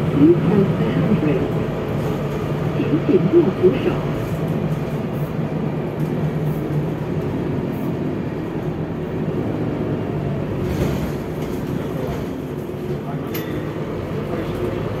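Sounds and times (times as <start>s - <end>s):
bus engine humming: 0.0s - 15.0s.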